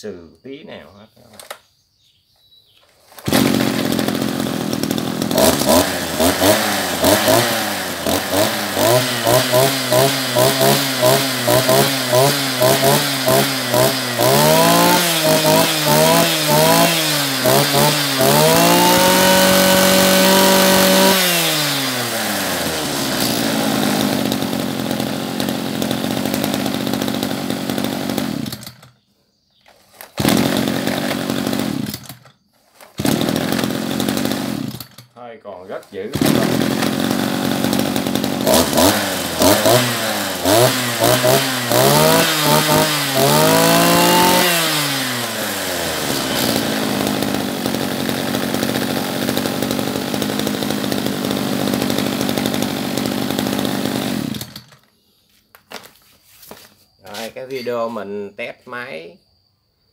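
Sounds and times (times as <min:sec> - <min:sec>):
brush cutter engine revving: 0:03.1 - 0:29.0, 0:29.8 - 0:54.9.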